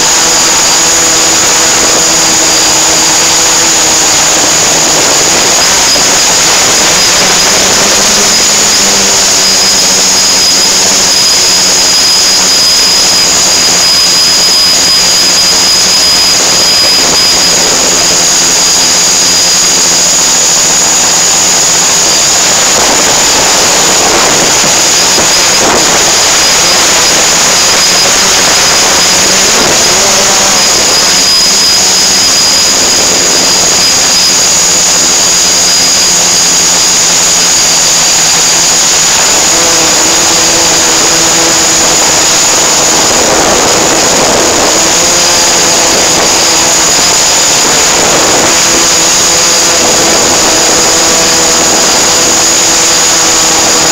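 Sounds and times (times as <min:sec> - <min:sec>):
dense rushing machine noise: 0:00.0 - 0:53.9
high whining tones: 0:00.0 - 0:53.9.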